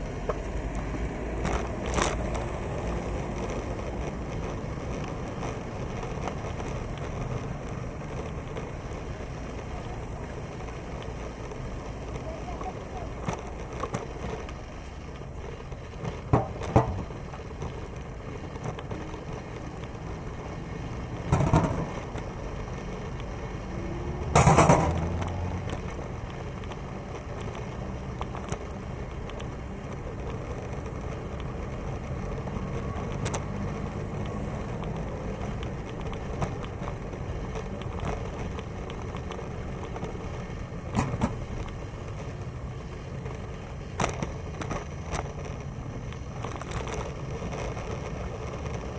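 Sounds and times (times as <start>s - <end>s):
wind and road rumble: 0.0s - 48.9s.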